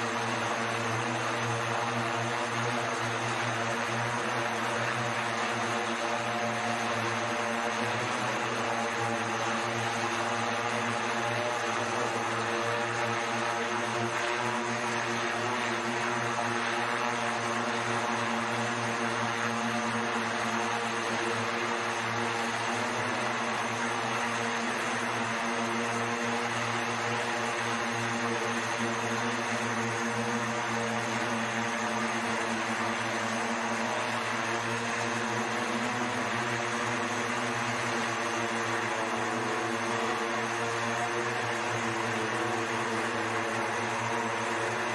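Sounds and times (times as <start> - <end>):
multirotor propeller hum: 0.0 - 44.9.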